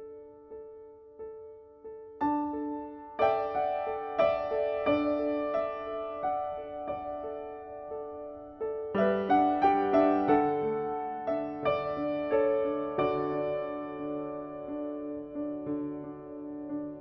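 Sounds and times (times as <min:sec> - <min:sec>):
piano-like keyboard music: 0:00.0 - 0:17.0.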